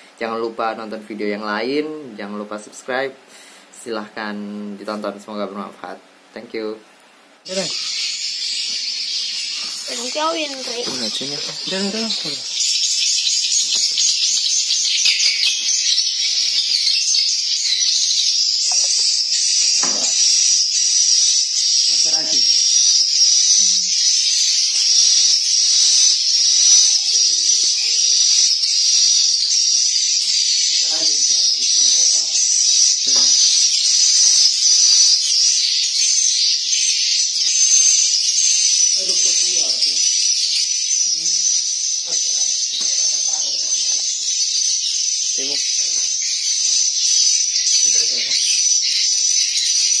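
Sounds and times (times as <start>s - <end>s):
swiftlets chirping: 7.5s - 50.0s.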